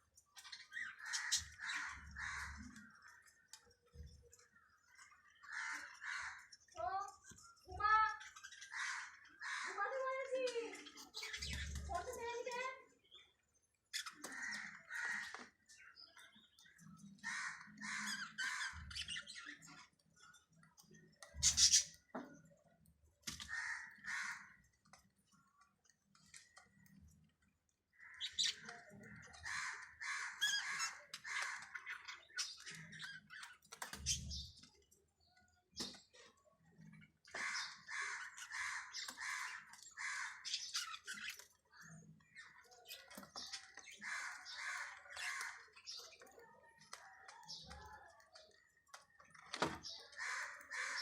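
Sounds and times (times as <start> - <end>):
bird chicks squawking: 0.0 - 12.8, 13.8 - 22.2, 23.2 - 25.6, 27.9 - 34.8, 35.8 - 47.8, 49.2 - 51.0.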